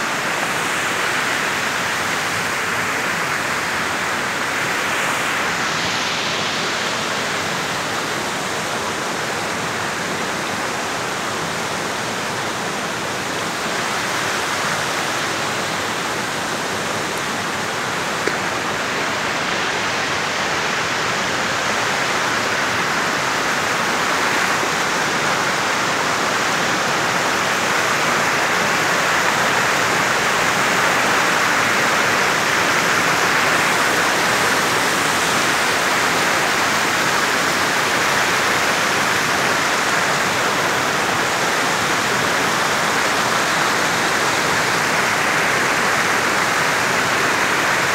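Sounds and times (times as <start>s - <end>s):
creek rushing over boulders: 0.0s - 47.9s.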